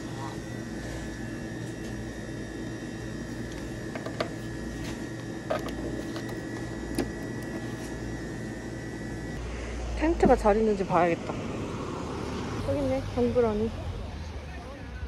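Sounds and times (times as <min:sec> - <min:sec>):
high-pitched electronic whine: 0:00.0 - 0:15.0.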